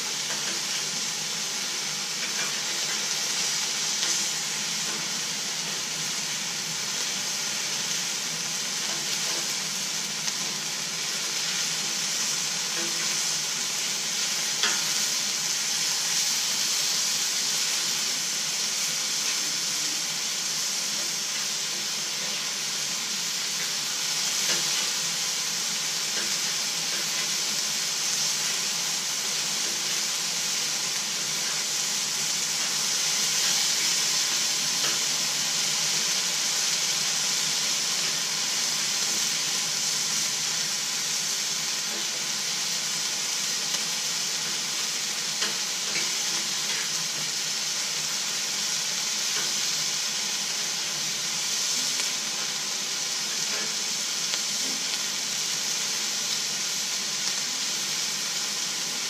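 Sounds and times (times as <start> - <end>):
chicken sizzling on a griddle: 0.0 - 59.0.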